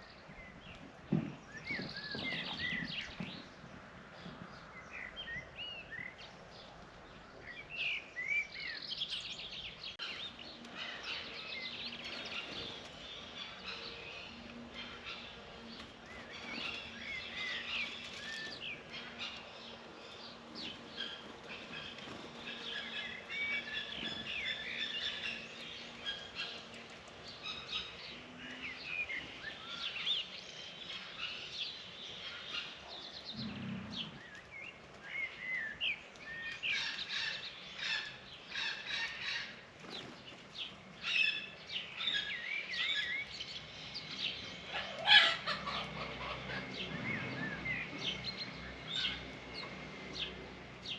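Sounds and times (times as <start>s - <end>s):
small birds chirping and twittering: 0.0s - 50.9s.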